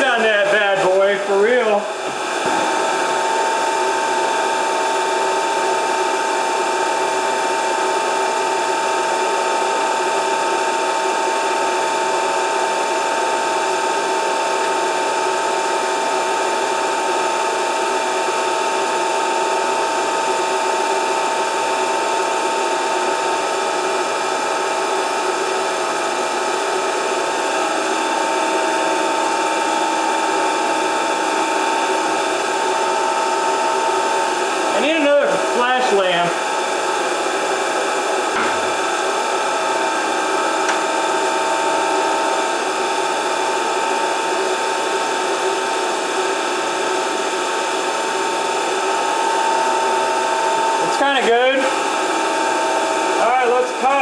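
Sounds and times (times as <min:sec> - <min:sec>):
grinding machine whining: 0:00.0 - 0:54.0.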